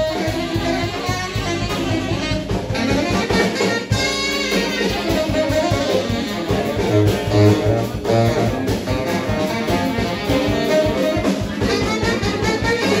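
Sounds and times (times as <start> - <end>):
bass line: 0.0 - 13.0
electric guitar: 0.0 - 13.0
saxophone lead: 0.0 - 13.0.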